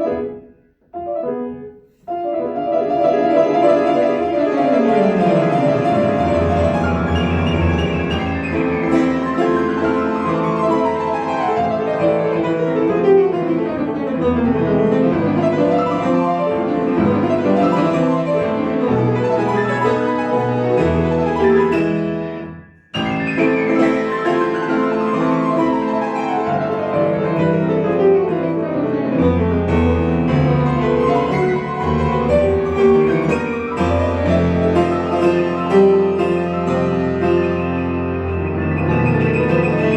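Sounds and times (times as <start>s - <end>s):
solo piano playing: 0.0s - 39.9s.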